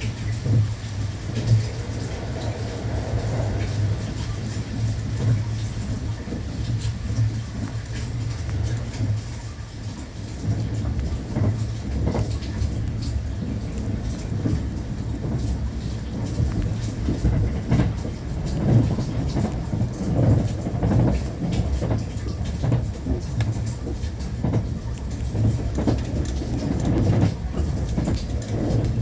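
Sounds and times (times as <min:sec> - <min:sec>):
train interior rumble: 0:00.0 - 0:29.0.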